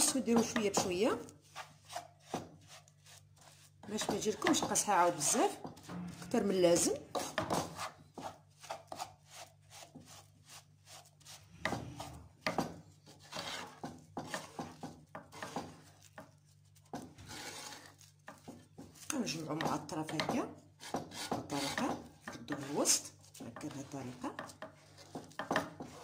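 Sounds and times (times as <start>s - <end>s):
spatula scraping a frying pan: 0.0s - 19.8s, 20.6s - 26.0s.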